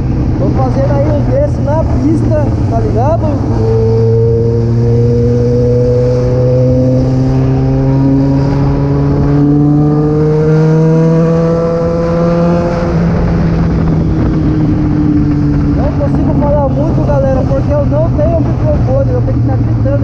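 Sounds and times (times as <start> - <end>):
motorcycle engine accelerating: 0.0 - 20.0
wind rush on microphone: 0.0 - 20.0.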